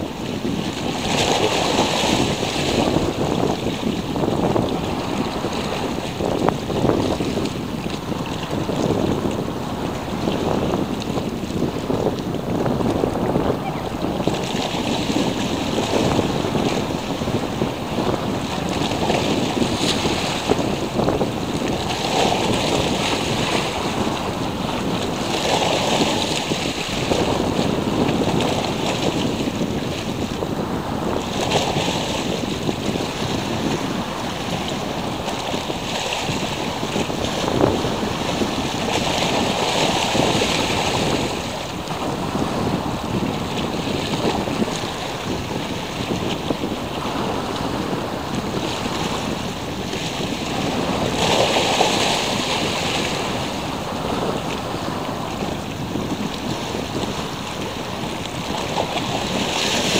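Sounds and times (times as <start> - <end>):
sea waves washing in: 0.0 - 59.9
wind on microphone: 0.0 - 59.9.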